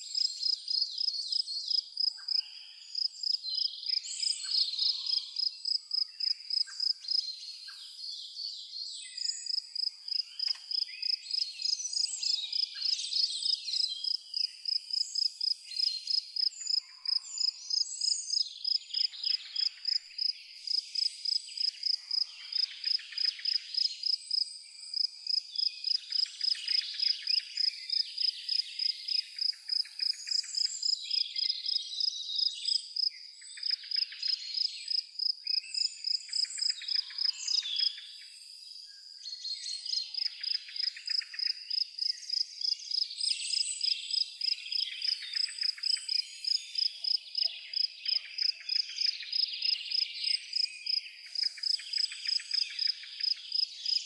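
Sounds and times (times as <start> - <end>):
cricket chirping: 0.0 - 7.2, 9.2 - 38.6, 39.9 - 54.0
birds singing and calling: 0.0 - 54.0.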